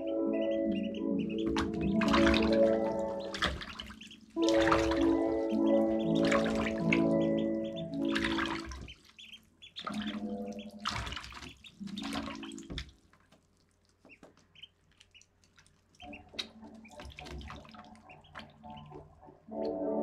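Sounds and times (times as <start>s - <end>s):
ducklings peeping: 0.0s - 12.9s, 13.9s - 19.8s
water splashing: 0.7s - 19.1s.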